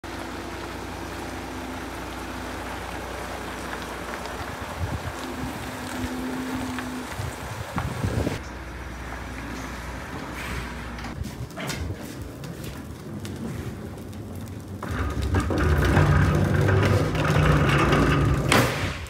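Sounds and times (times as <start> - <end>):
diesel truck engine rumbling: 0.0 - 19.0.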